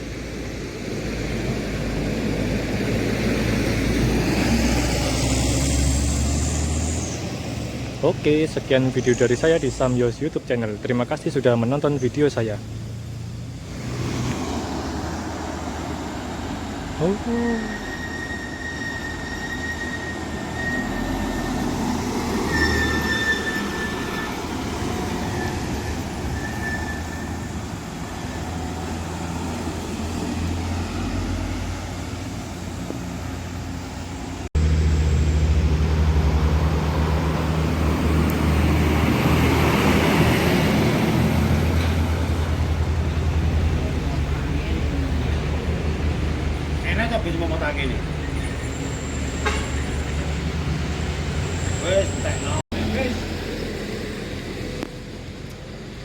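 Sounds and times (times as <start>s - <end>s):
vehicle passing close: 0.0s - 10.1s, 12.1s - 17.3s, 20.2s - 55.3s
heavy vehicles engine drone: 0.0s - 56.0s.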